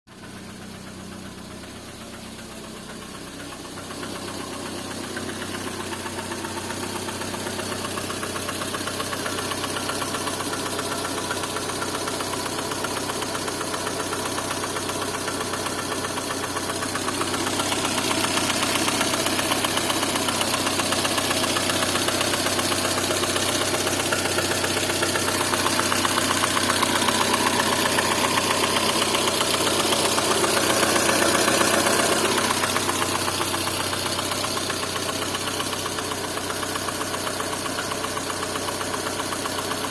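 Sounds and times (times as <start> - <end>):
car engine knocking: 0.1 - 39.9.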